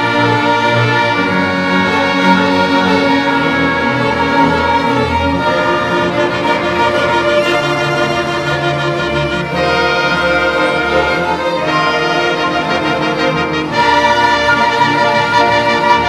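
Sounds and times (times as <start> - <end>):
bowed strings playing a hymn: 0.0 - 16.0.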